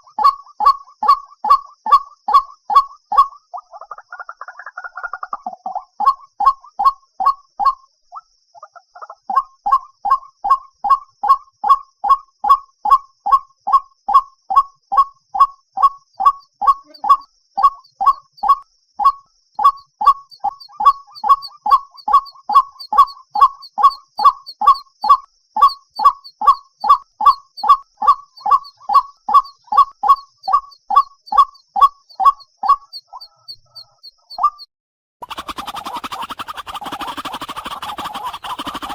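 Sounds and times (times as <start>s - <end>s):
bird repeated call notes: 0.0s - 38.9s.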